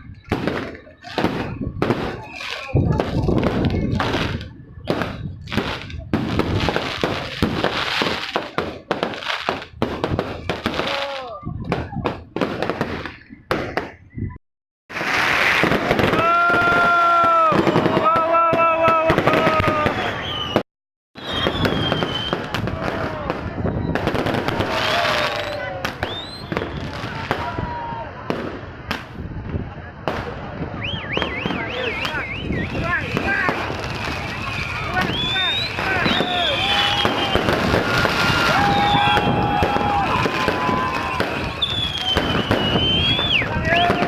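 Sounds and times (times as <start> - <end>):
fireworks bangs and crackles: 0.0 - 20.6, 21.2 - 44.0.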